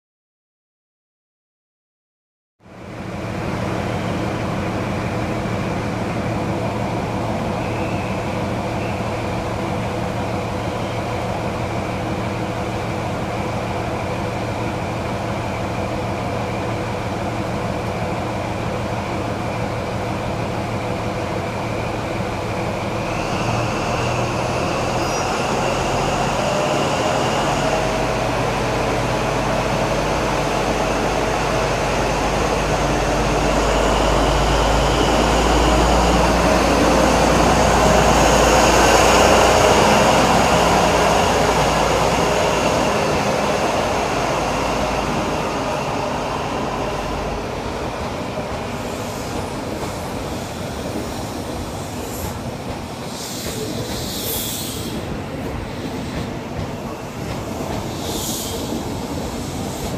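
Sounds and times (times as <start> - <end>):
diesel train engine with whine: 2.6 - 59.9.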